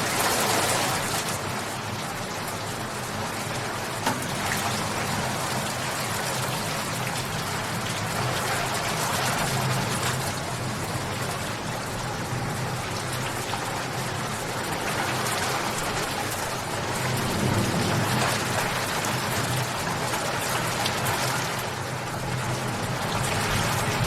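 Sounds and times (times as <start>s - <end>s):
steady rain patter: 0.0s - 24.0s.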